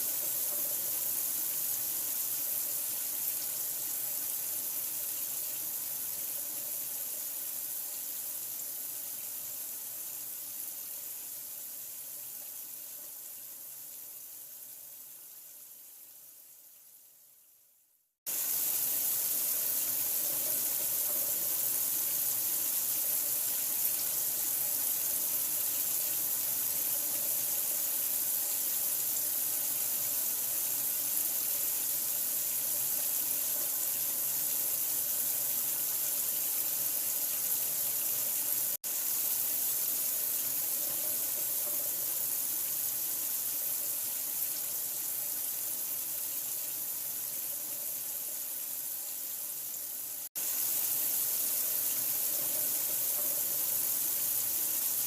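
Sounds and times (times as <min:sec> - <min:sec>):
running water: 0:00.0 - 0:16.6, 0:18.3 - 0:55.0.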